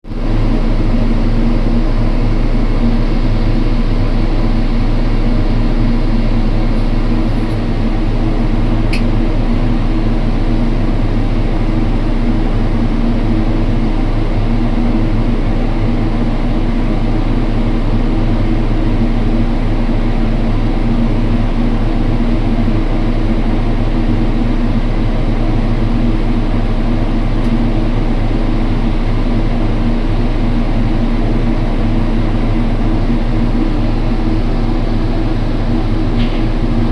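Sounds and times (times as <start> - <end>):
large machine engine droning: 0.0 - 36.9.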